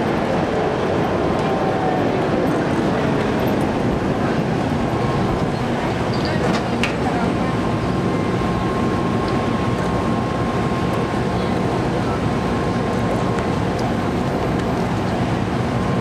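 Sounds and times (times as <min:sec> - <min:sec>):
crowd and street noise: 0:00.0 - 0:16.0
tram humming with high whine: 0:00.0 - 0:16.0.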